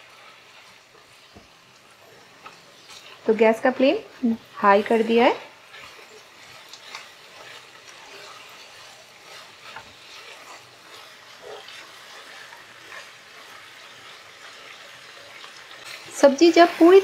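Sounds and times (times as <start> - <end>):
stirring scrapes: 0.0 - 17.0
vegetables sizzling in a pan: 0.0 - 17.0.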